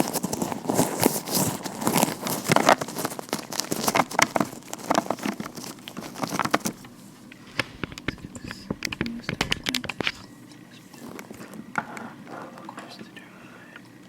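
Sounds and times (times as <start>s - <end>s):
gloved hands rubbing: 0.0s - 12.4s.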